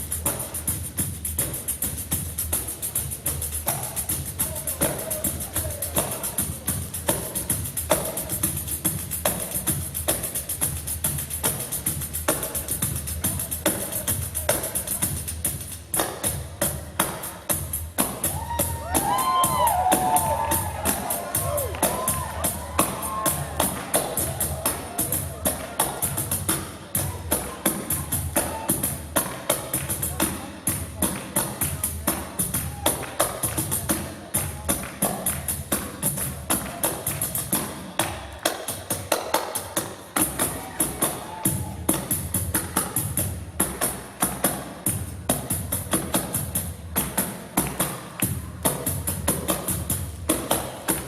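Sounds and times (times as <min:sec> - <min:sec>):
frame drums with jingles: 0:00.0 - 0:51.0
low drum: 0:00.0 - 0:51.0
pandeiros playing rhythmic groove: 0:00.0 - 0:51.0.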